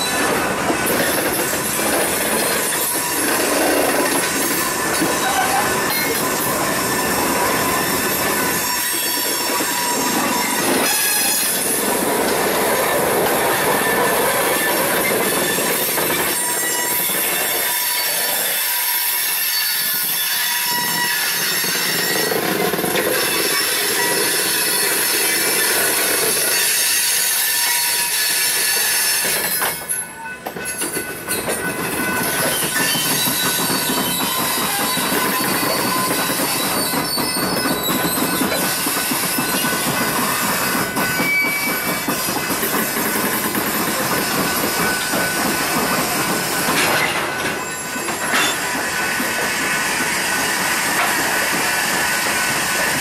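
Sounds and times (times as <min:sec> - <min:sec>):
high wheel squeal: 0:00.0 - 0:53.0
train wheels rumbling on rails: 0:00.0 - 0:53.0.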